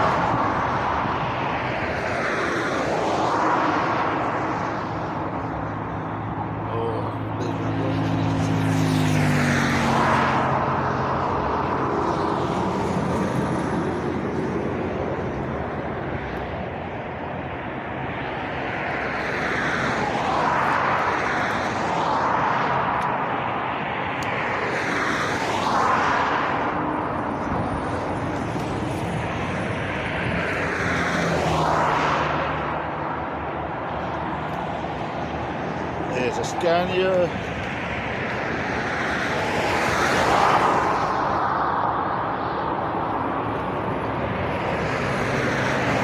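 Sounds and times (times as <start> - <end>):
road traffic passing: 0.0 - 46.0
vehicles swishing past: 0.0 - 46.0.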